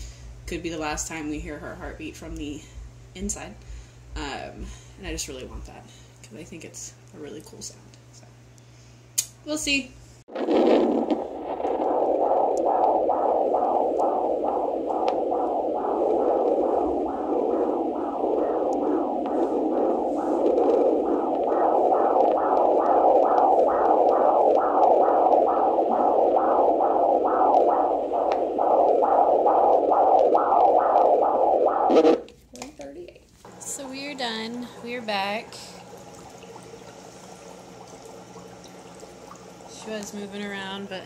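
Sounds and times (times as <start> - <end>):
fetal heartbeat on doppler monitor: 0.0 - 5.8, 10.3 - 32.3, 33.5 - 41.0.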